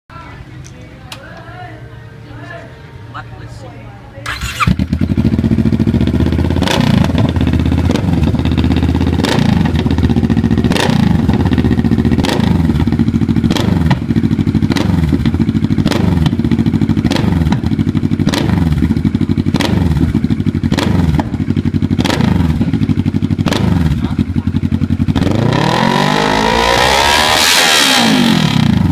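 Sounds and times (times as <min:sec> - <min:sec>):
motorcycle engine revving: 0:04.2 - 0:28.9.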